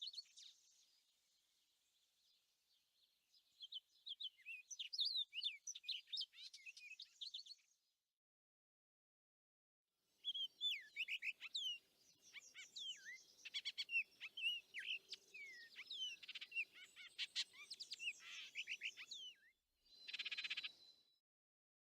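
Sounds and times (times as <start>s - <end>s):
songbirds singing: 0.0s - 8.0s, 10.2s - 21.2s.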